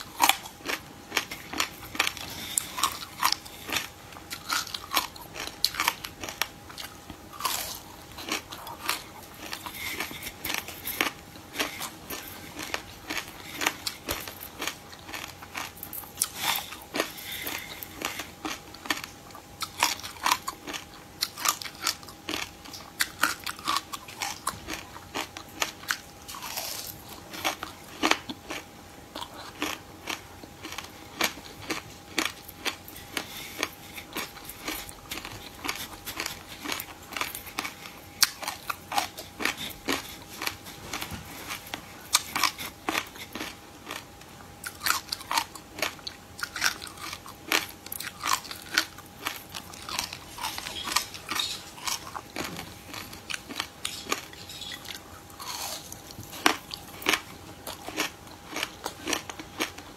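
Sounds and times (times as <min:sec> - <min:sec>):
chewing crunchy dry grains: 0:00.0 - 0:59.9
faint steady hum: 0:00.0 - 0:59.9.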